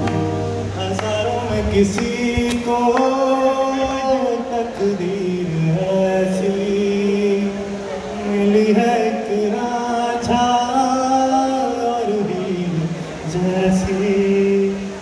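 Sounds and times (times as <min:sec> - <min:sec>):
man singing slow melody: 0:00.0 - 0:15.0.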